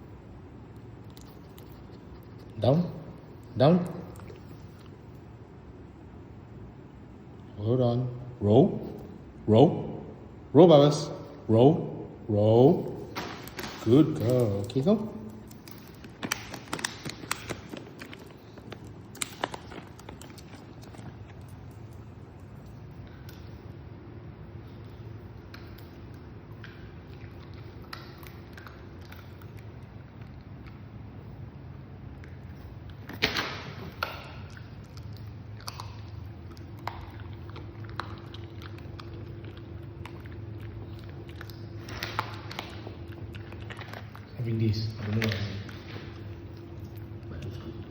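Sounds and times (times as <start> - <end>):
dog chewing crunchy treat: 0.6 - 5.8, 12.8 - 47.9.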